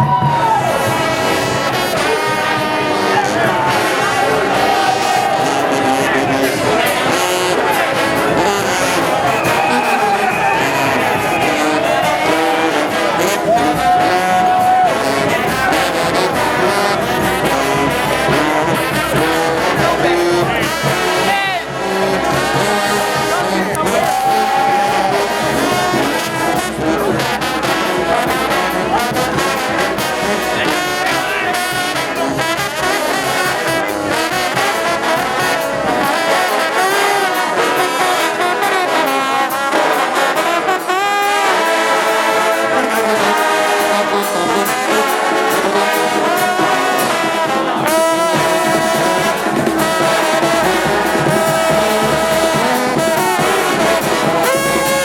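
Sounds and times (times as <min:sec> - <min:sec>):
percussive beat: 0:00.0 - 0:38.9, 0:39.7 - 0:55.0
brass band playing: 0:00.0 - 0:55.0.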